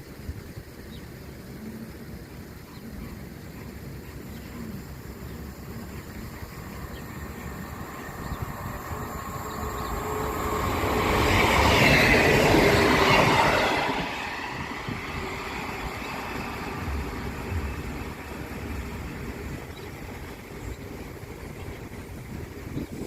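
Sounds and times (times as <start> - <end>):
diesel train passing: 2.2 - 23.0.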